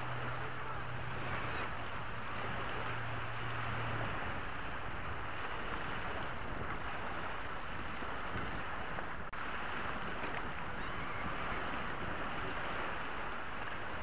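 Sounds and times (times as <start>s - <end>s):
waves washing over rocks: 0.0s - 14.0s
wind on microphone: 0.0s - 14.0s.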